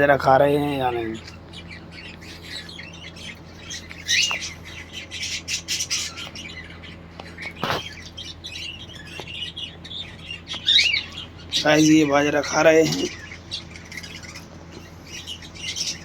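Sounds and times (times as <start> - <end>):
faint steady hum: 0.0 - 16.0
parrots chirping and squawking: 0.0 - 16.0.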